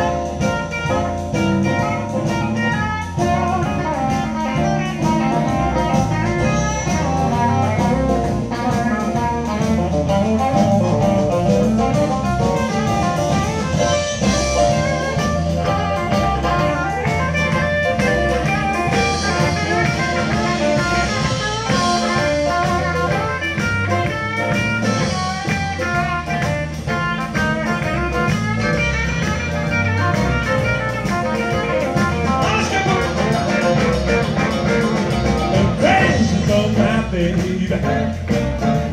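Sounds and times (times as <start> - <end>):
drum kit: 0.0 - 38.9
electric guitar: 0.0 - 38.9
harmonica: 0.0 - 38.9
piano: 0.0 - 38.9
walking bass guitar: 0.0 - 38.9.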